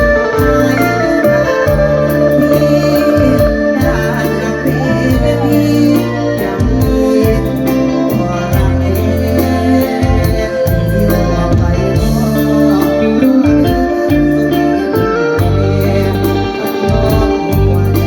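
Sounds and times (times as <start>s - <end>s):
bass: 0.0s - 18.0s
organ-like electronic keyboard: 0.0s - 18.0s
person singing: 0.0s - 18.0s
steady drum beat: 0.0s - 18.0s.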